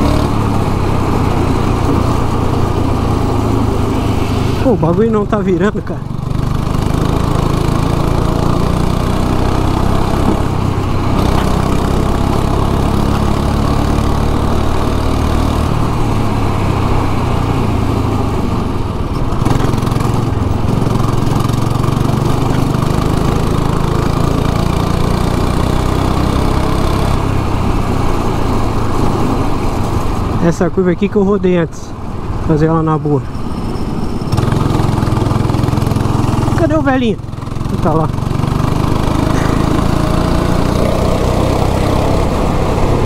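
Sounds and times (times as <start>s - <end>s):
go-kart engine running hard: 0.0s - 43.0s.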